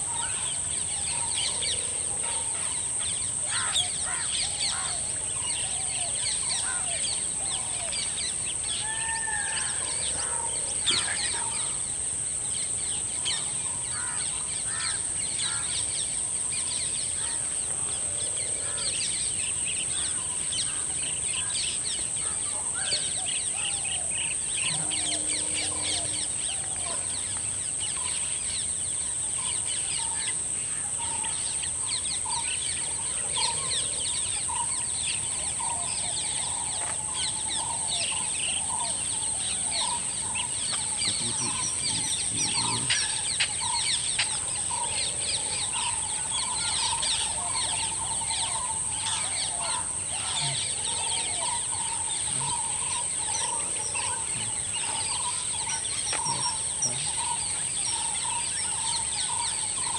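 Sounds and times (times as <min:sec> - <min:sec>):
high-pitched insect drone: 0:00.0 - 0:59.9
small birds chirping: 0:00.0 - 0:59.9.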